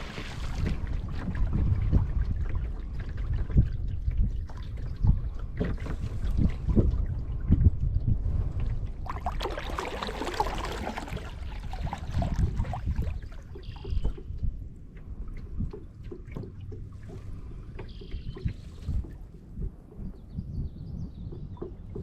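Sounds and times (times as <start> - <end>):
paddle splashing in water: 0.0 - 7.6, 8.3 - 19.4.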